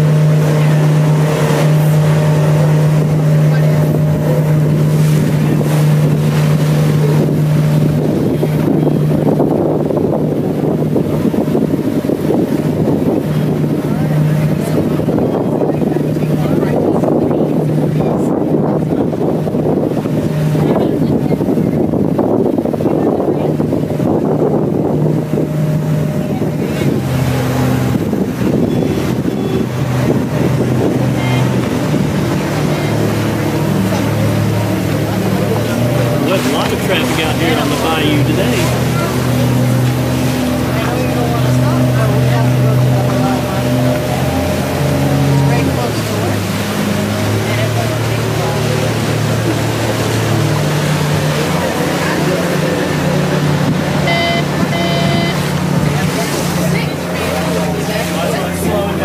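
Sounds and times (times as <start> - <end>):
boat engine humming: 0.0 - 59.0
water rushing along hull: 0.0 - 59.0
wind buffeting microphone: 0.0 - 59.0.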